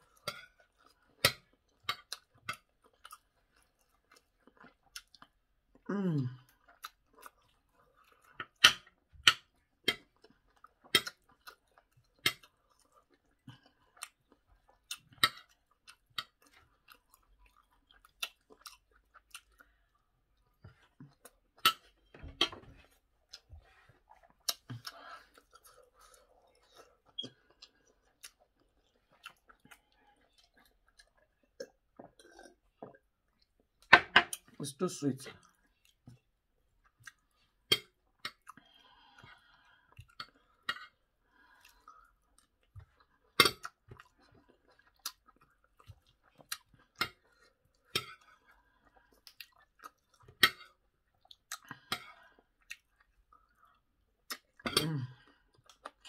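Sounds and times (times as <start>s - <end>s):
close chewing of food: 0.0s - 56.0s.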